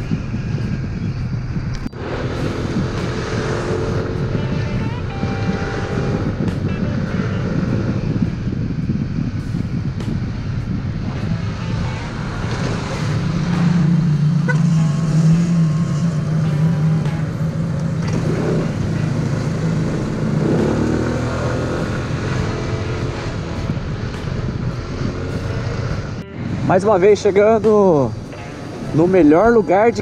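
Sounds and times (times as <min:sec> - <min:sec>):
passing car traffic: 0:00.0 - 0:30.0
scooter engine running: 0:02.0 - 0:26.3.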